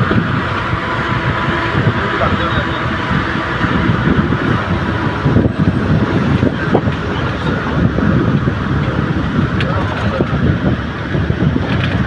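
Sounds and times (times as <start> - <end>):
road noise: 0.0 - 12.0
vehicle engine: 0.0 - 12.0.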